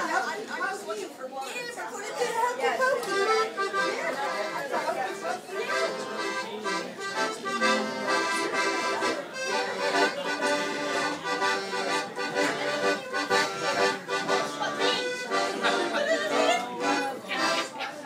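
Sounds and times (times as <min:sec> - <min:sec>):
piano accordion playing a tune: 0:03.0 - 0:18.0.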